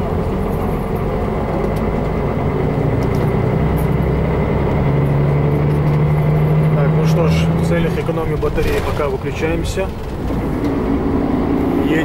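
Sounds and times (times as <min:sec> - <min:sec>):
bus engine running: 0:00.0 - 0:12.0
road noise: 0:00.0 - 0:12.0.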